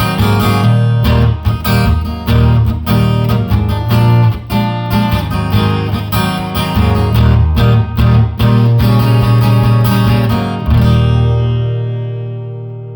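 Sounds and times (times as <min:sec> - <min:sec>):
acoustic guitar strumming: 0:00.0 - 0:12.9.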